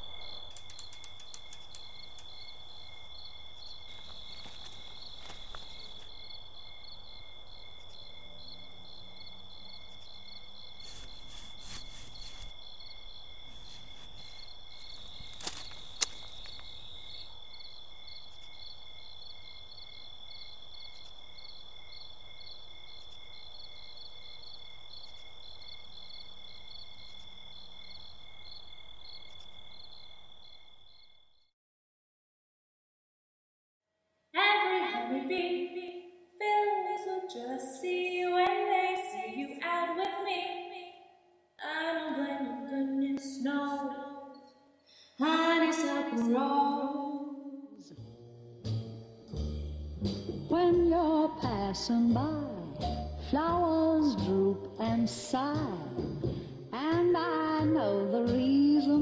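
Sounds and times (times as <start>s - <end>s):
crickets chirping: 0.0s - 31.5s, 34.4s - 59.0s.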